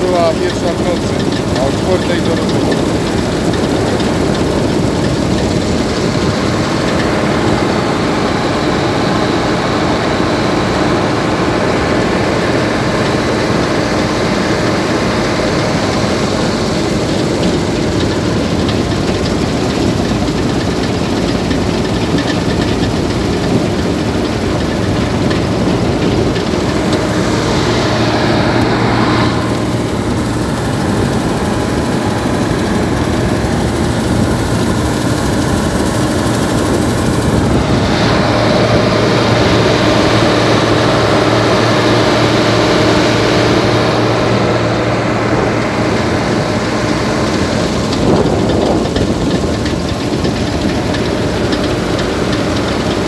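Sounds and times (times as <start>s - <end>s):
combine harvester droning: 0.0s - 53.0s.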